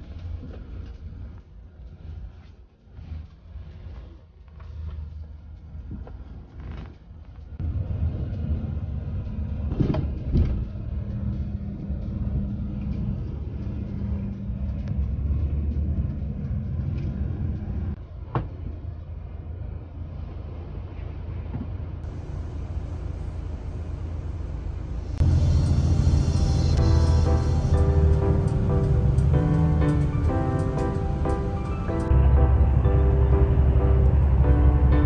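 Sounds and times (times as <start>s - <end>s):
engine and road rumble: 0.0s - 35.0s.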